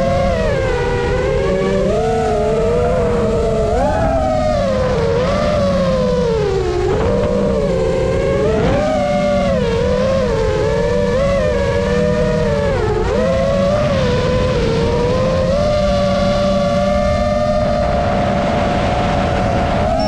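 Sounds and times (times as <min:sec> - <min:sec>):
propeller motor whining: 0:00.0 - 0:20.0
wind rumble: 0:00.0 - 0:20.0.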